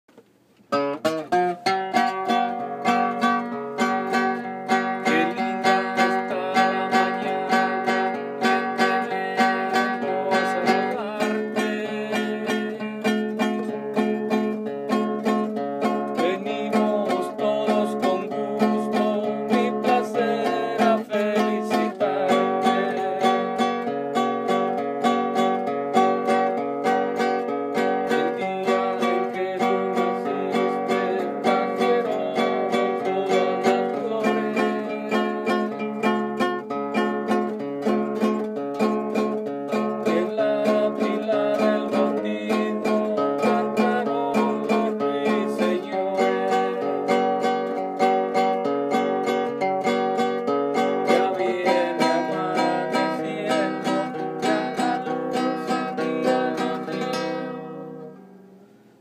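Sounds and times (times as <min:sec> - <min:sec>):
acoustic guitar playing: 0:00.1 - 0:59.0.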